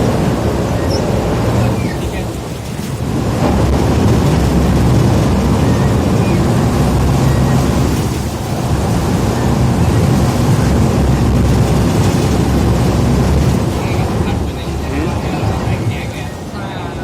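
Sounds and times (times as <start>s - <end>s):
ferry engine rumble: 0.0s - 17.0s
water wash: 0.0s - 17.0s.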